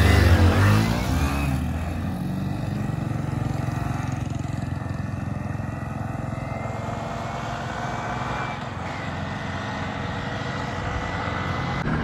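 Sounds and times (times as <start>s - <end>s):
motorcycle engines accelerating: 0.0s - 12.0s.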